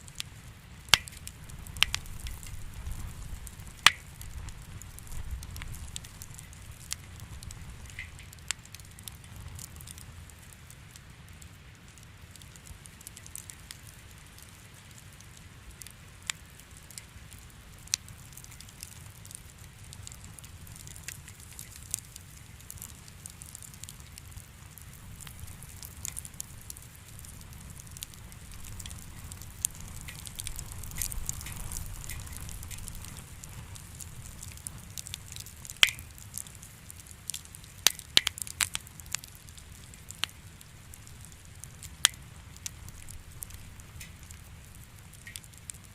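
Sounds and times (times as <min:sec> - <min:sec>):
fire popping: 0:00.0 - 0:45.9
wood fire crackling: 0:00.0 - 0:45.9.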